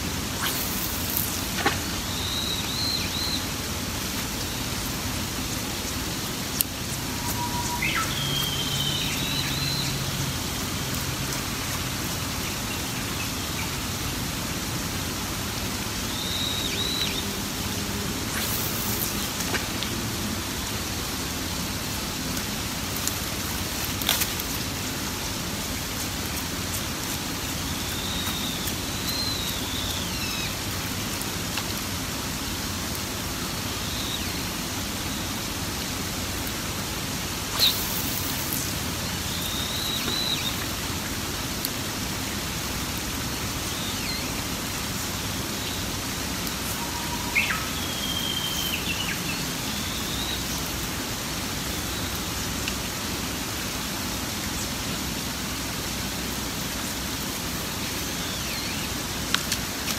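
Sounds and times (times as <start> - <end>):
light rain hiss: 0.0 - 59.9.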